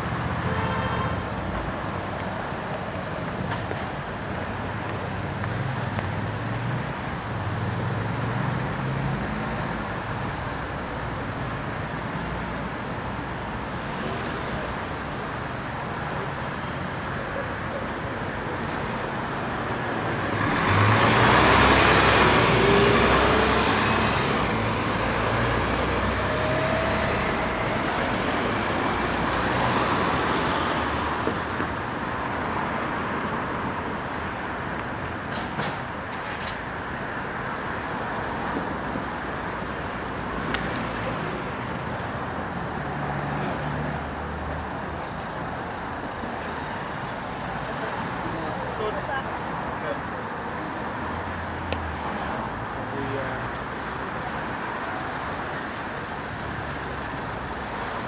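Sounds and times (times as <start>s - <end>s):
street traffic passing: 0.0s - 58.0s.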